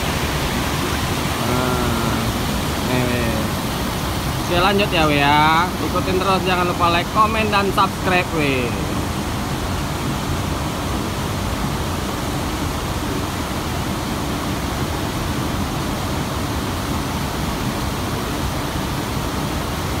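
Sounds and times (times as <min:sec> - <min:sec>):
water rushing over a weir: 0:00.0 - 0:20.0.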